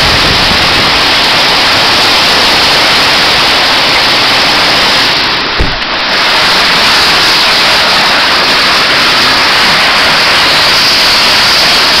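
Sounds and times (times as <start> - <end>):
hailstones pelting down: 0.0 - 12.0.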